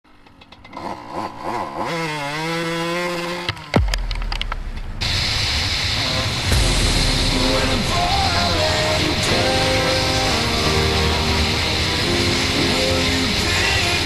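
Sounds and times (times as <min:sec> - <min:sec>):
dirt bike engine revving: 0:00.7 - 0:06.6, 0:07.3 - 0:14.0.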